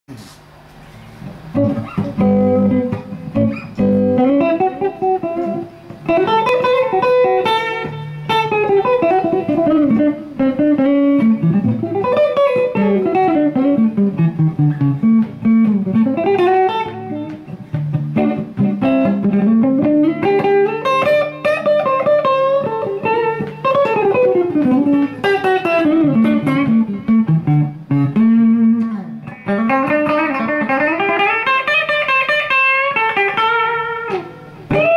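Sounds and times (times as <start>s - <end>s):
overdriven electric guitar lead: 1.0s - 34.9s.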